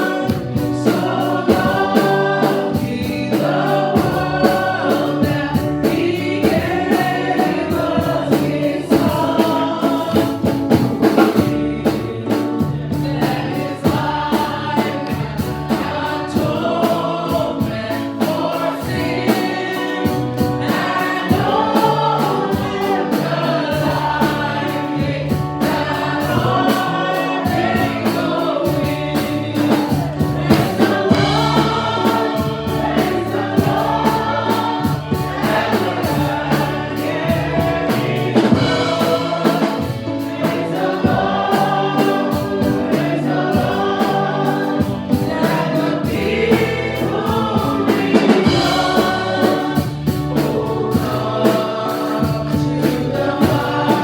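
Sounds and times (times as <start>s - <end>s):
band with bass and drums: 0.0s - 54.0s
choir and congregation singing: 0.0s - 54.0s.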